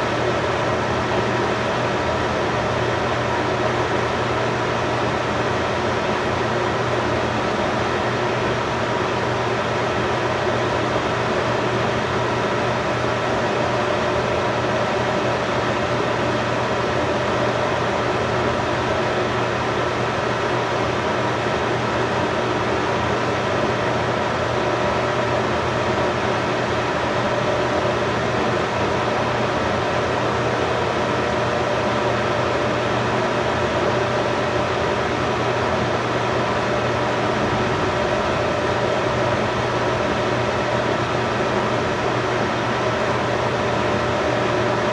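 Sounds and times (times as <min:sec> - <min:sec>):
fan blower hum and hiss: 0:00.0 - 0:44.9.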